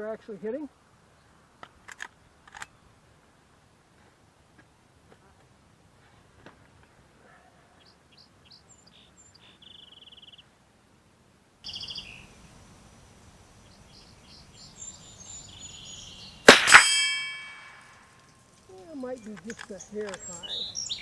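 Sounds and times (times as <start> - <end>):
songbirds chirping: 0.0 - 3.7, 6.3 - 10.7, 11.6 - 21.0.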